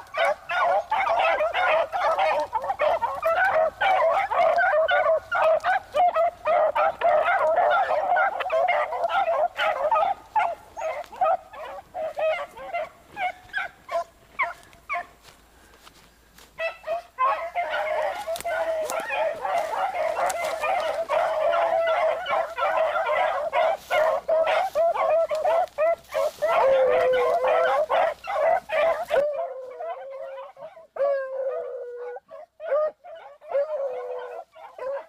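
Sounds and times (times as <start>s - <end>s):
hounds baying and yelping: 0.0s - 35.0s.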